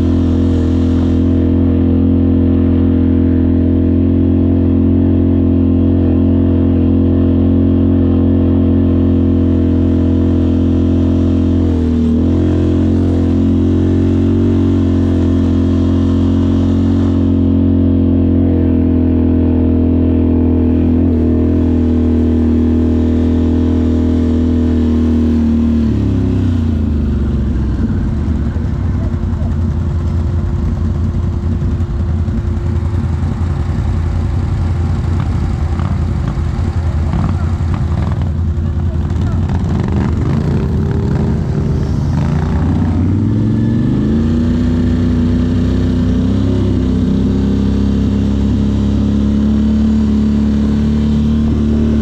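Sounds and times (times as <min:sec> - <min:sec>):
off-road vehicle engine running: 0:00.0 - 0:52.0.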